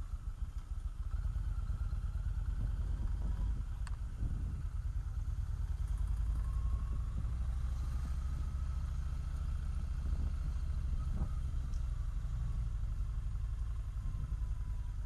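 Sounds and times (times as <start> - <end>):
motorcycle engine running: 0.0 - 15.0
faint thin whine: 1.5 - 15.0.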